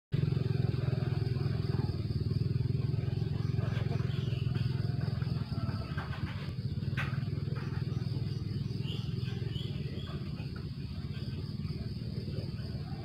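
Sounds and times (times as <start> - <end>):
small engine running: 0.2 - 13.0.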